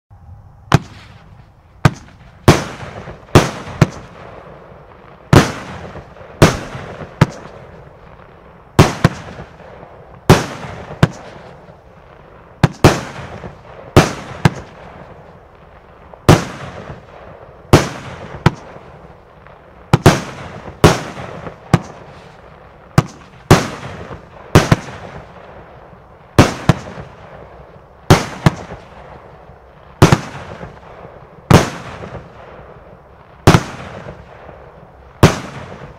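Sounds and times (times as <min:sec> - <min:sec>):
fireworks bangs with ringing tail: 0:00.7 - 0:35.9.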